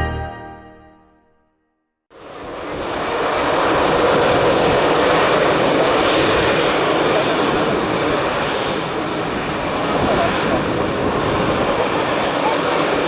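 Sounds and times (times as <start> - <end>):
jet engines roaring: 2.2 - 13.0.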